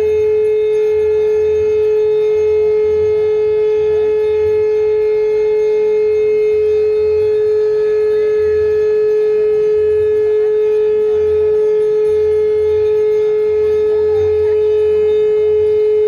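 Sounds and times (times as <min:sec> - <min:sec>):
steady tone: 0:00.0 - 0:16.0.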